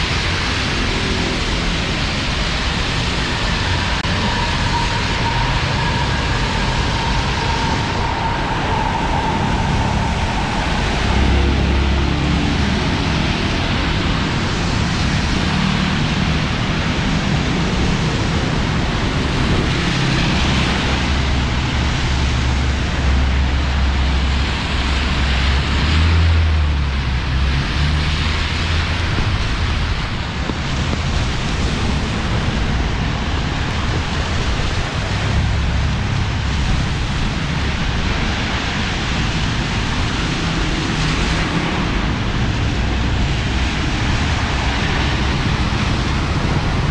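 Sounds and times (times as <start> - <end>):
heavy rain pouring: 0.0 - 46.9
road traffic engines rumbling: 0.0 - 46.9.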